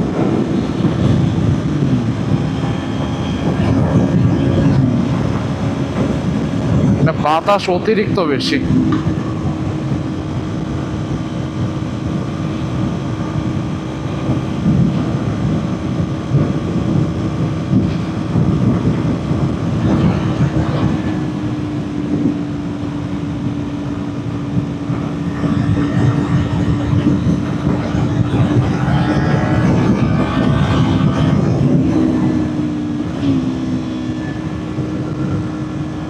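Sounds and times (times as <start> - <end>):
motorcycle engine at high revs: 0.0 - 36.0
wind buffeting on microphone: 0.0 - 36.0.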